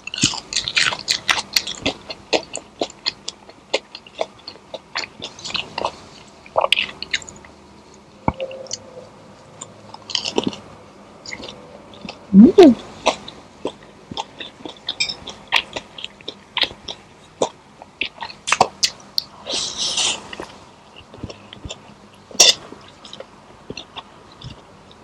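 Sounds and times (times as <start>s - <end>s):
chewing and crunching food: 0.0s - 8.0s, 9.6s - 12.2s, 12.8s - 25.0s.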